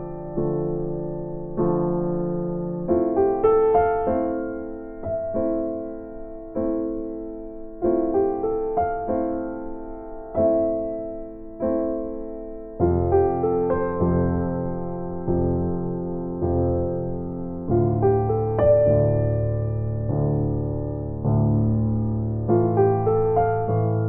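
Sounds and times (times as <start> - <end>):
slow electric piano chords: 0.0 - 24.0.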